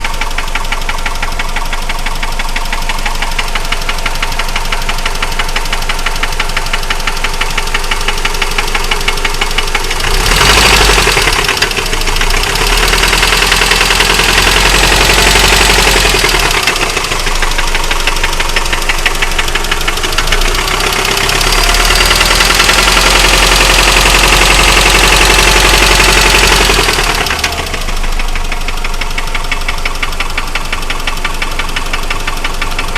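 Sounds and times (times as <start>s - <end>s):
car engine knocking: 0.0s - 32.9s.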